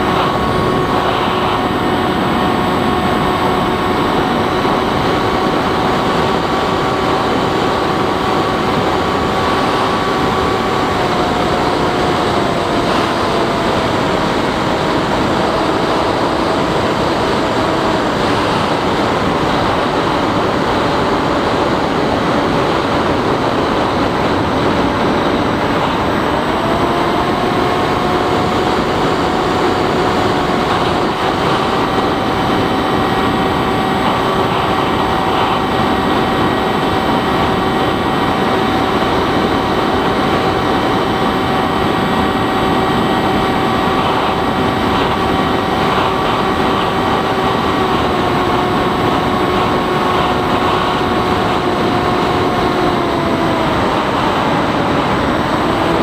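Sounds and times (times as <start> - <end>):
electric motor and propeller whining: 0.0 - 56.0.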